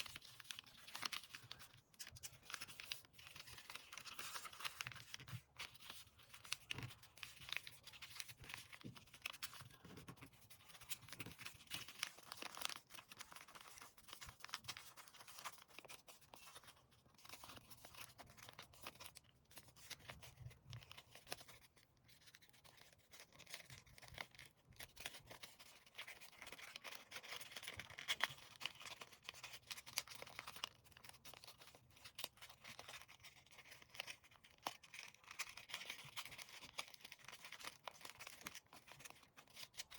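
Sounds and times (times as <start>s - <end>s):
paper rustling and crackling: 0.0s - 39.9s.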